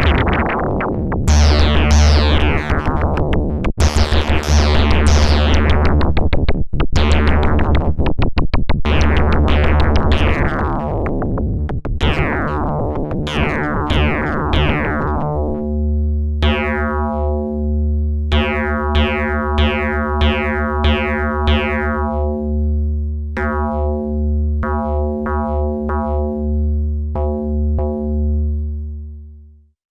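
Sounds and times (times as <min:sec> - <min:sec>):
low synthesizer drone: 0:00.0 - 0:06.3, 0:07.0 - 0:08.1, 0:08.8 - 0:29.6
synthesizer repeated notes: 0:00.0 - 0:28.5.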